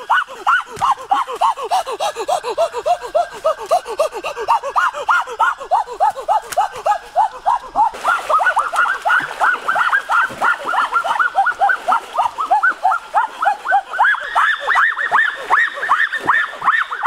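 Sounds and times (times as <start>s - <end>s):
chorus of animal calls: 0.0s - 17.0s.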